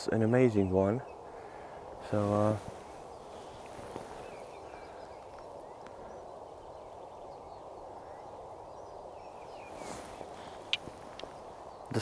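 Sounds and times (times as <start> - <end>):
low outdoor hum: 0.0 - 12.0
small birds chirping: 0.0 - 12.0.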